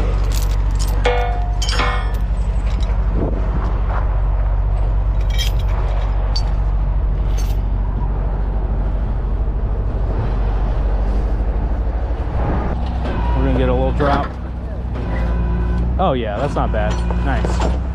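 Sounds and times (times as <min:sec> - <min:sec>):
diesel truck engine running: 0:00.0 - 0:17.9.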